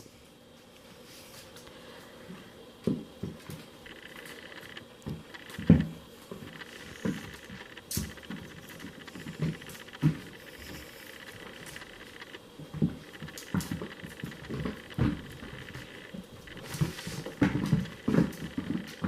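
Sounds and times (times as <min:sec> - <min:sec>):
pet paws thumping and scuffling: 0:02.8 - 0:19.0.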